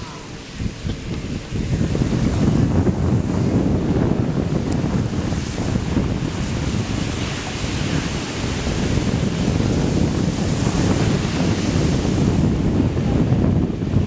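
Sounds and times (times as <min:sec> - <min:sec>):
surf breaking over rocks: 0:00.0 - 0:14.0
wind buffeting microphone: 0:00.0 - 0:14.0.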